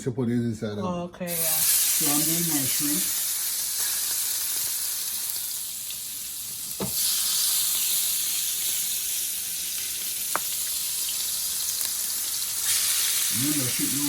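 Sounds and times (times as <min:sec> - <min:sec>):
shrimp sizzling in a pan: 0:01.3 - 0:14.0.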